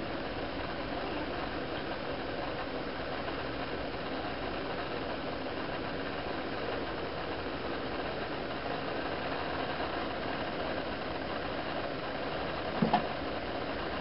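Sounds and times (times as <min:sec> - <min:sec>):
mechanical hum with hiss: 0:00.0 - 0:14.0.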